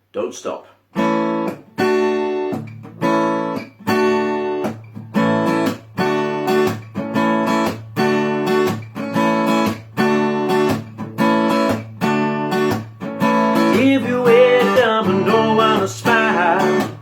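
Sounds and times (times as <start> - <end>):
acoustic guitar strumming: 0.9 - 17.0.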